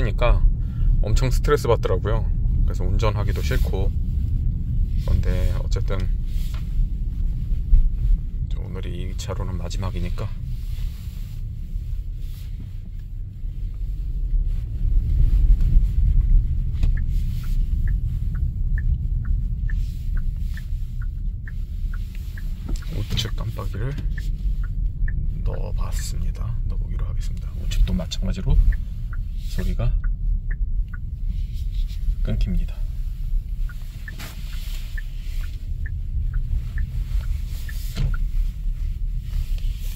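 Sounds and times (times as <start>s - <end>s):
road and drivetrain rumble: 0.0s - 39.9s
turn signal ticking: 0.0s - 39.9s.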